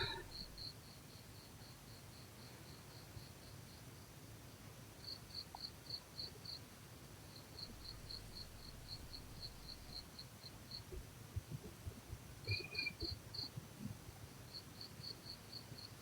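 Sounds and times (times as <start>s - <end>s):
faint cricket chirping: 0.0s - 4.2s, 5.0s - 11.0s, 11.9s - 13.6s, 14.3s - 16.0s.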